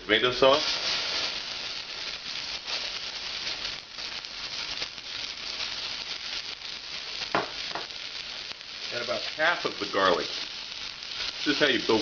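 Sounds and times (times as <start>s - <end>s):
vegetables sizzling in a saucepan: 0.0s - 12.0s.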